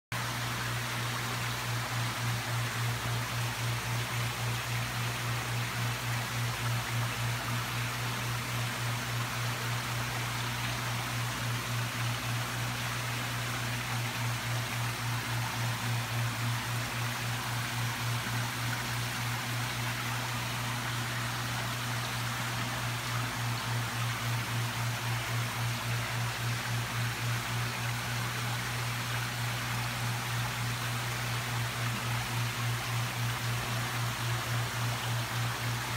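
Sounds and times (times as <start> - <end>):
constant hiss: 0.2 - 35.9
pulsing low mechanical hum: 0.2 - 35.9.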